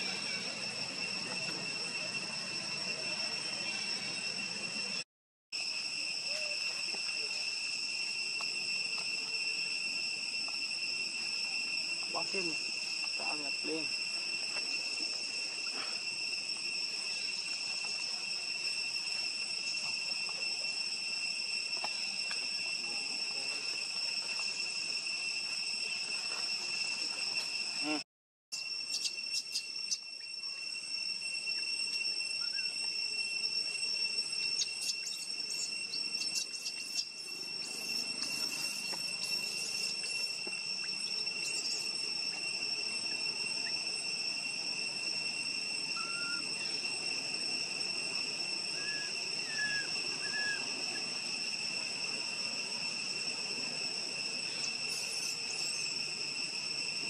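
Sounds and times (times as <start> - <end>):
insect chorus droning: 0.0 - 57.0.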